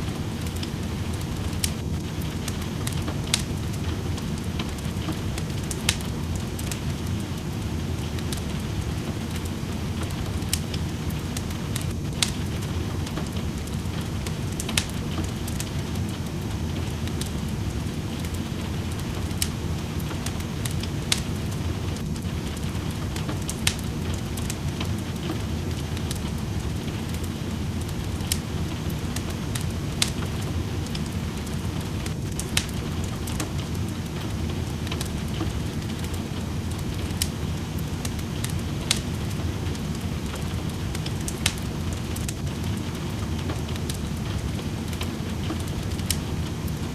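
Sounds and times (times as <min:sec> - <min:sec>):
rain rushing: 0:00.0 - 0:46.9
wood fire crackling and popping: 0:00.0 - 0:46.9.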